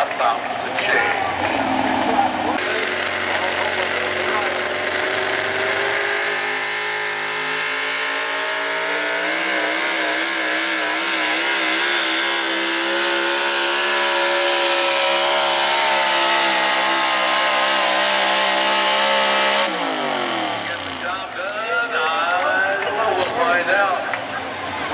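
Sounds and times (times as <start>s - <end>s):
truck engine at high revs: 0.0s - 24.9s.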